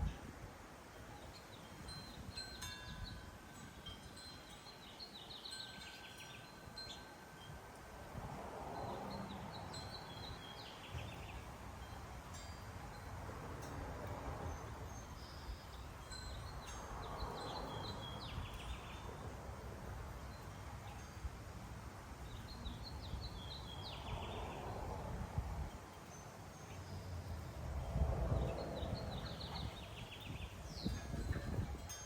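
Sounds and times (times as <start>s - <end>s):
songbird singing: 0.9s - 7.6s, 8.7s - 13.2s, 14.0s - 21.3s, 22.0s - 32.0s.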